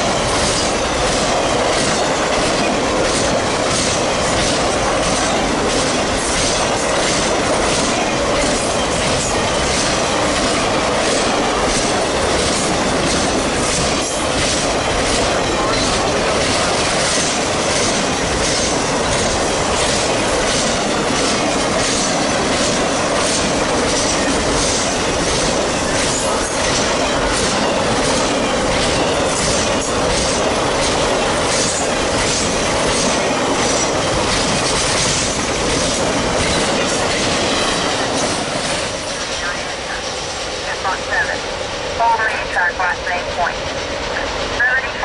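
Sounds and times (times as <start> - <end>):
steel wheels rolling on rail: 0.0 - 44.8.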